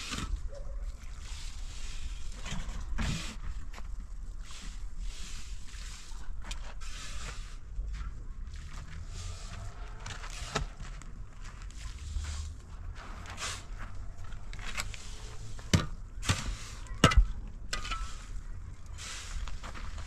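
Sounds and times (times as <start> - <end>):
scraping and rustling: 0.0 - 20.0.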